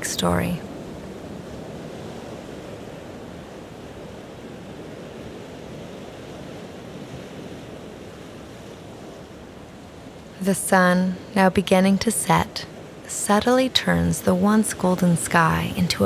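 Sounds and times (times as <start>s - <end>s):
waves washing on beach: 0.0s - 16.0s.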